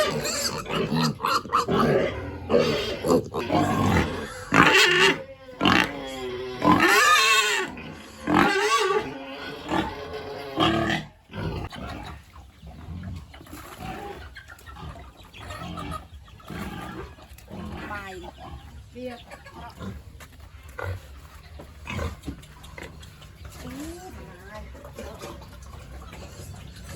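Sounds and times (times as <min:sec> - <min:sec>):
pigs grunting: 0:00.0 - 0:26.9
pigs squealing: 0:00.0 - 0:26.9.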